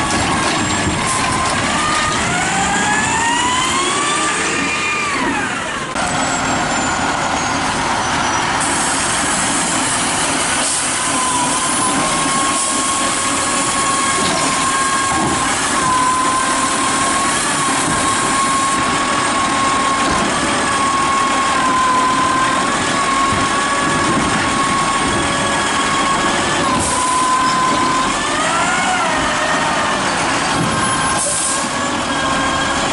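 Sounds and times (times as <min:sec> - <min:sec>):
garbage truck engine: 0:00.0 - 0:32.9.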